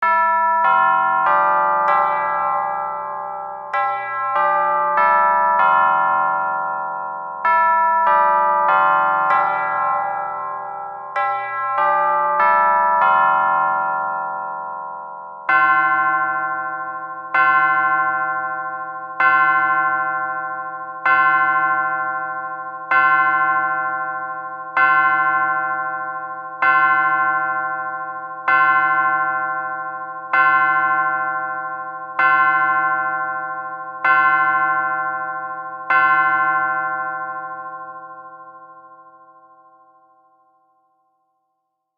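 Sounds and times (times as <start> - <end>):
clock bell striking: 0.0 - 40.3.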